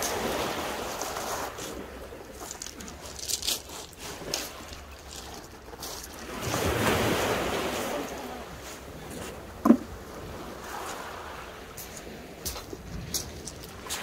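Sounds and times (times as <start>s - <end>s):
waves washing on shingle beach: 0.0s - 14.0s.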